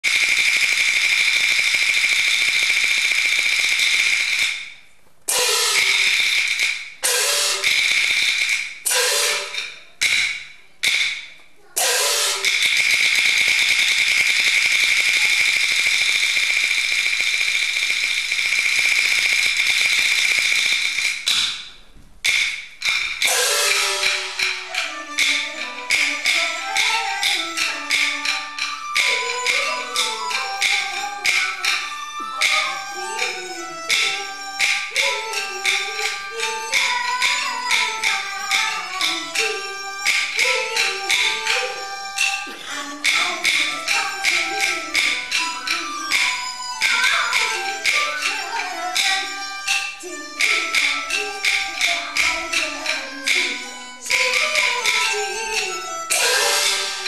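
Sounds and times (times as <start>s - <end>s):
cymbals and gongs rolling: 5.3s - 10.3s, 11.8s - 21.5s, 22.8s - 54.6s, 55.6s - 57.0s.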